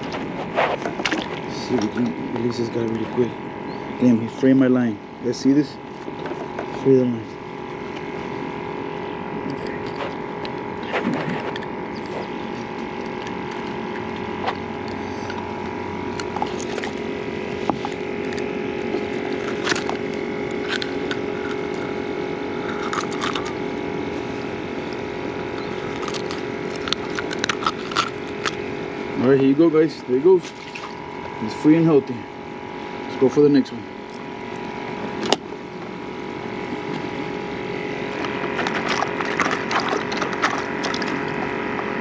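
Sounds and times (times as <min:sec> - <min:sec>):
steady multi-pitch hum: 0:00.0 - 0:42.0.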